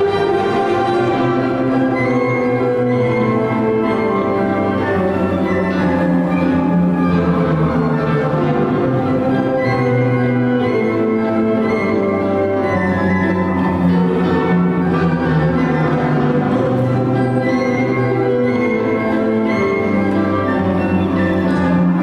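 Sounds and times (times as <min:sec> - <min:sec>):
string orchestra playing a waltz: 0:00.0 - 0:22.0.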